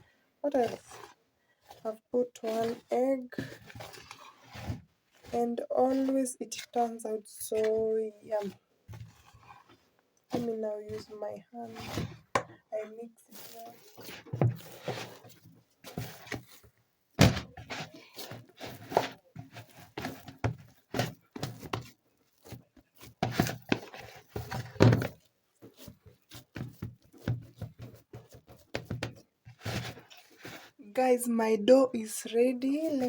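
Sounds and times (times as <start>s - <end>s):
dough kneaded by hand thudding: 0.0s - 30.8s.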